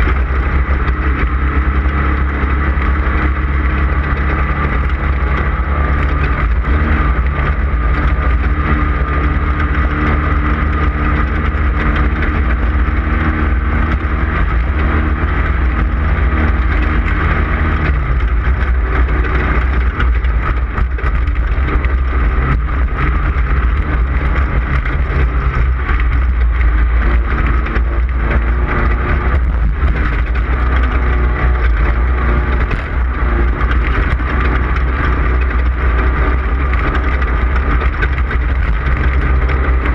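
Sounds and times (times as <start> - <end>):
noisy rattling: 0.0 - 39.9
race car engine running hard: 0.0 - 39.9.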